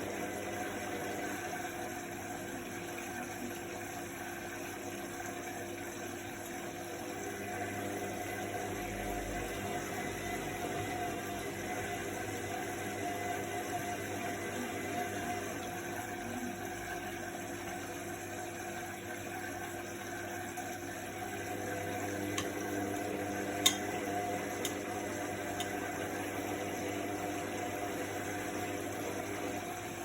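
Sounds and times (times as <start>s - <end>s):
washing machine humming: 0.0s - 30.0s.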